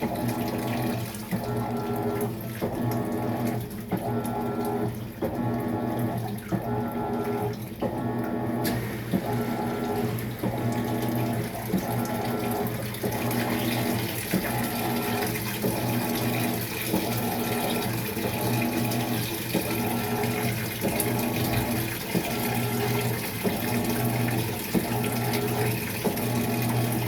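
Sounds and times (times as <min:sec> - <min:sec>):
water rushing into tub: 0:00.0 - 0:27.0.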